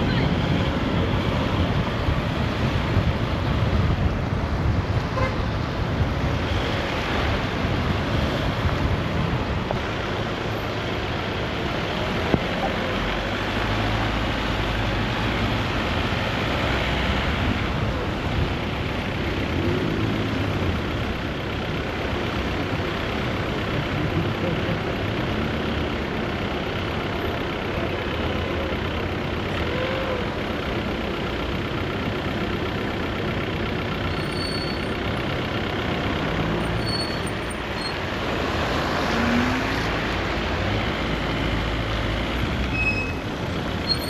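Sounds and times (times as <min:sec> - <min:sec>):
car engine hum: 0:00.0 - 0:44.0
tyre and road noise: 0:00.0 - 0:44.0.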